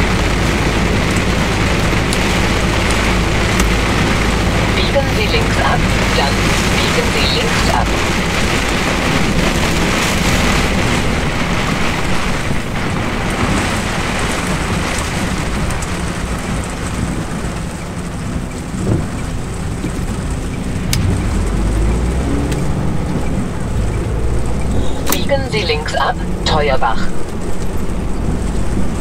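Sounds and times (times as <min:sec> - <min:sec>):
diesel truck engine: 0:00.0 - 0:29.0
heavy rain on windscreen: 0:00.0 - 0:29.0
tyres on wet road: 0:00.0 - 0:29.0.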